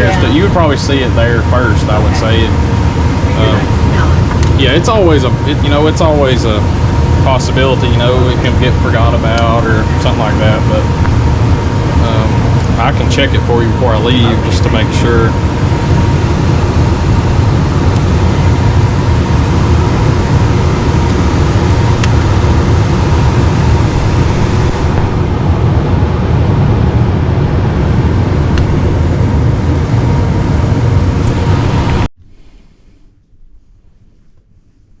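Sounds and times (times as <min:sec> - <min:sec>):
ventilation whooshing hum: 0:00.0 - 0:35.0.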